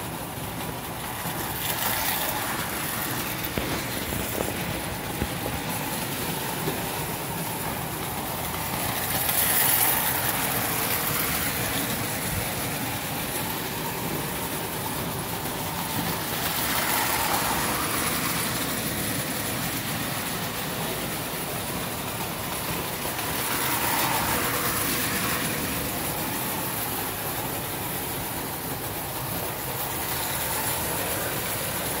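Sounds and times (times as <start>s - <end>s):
toy train motor whir: 0.0s - 32.0s
wheels clattering on metal rails: 0.0s - 32.0s.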